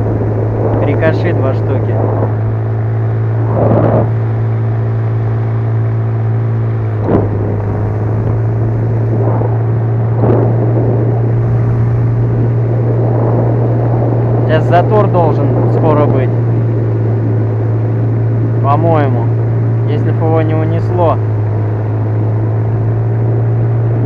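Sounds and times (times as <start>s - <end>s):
outboard motor humming: 0.0s - 24.0s.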